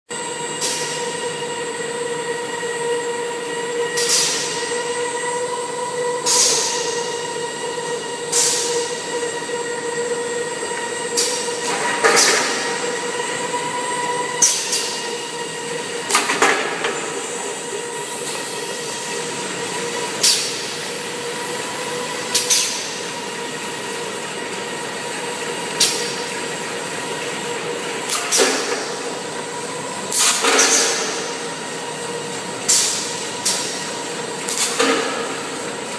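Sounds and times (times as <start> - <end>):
machine hum: 0.1 - 35.9
machine whine: 0.1 - 35.9.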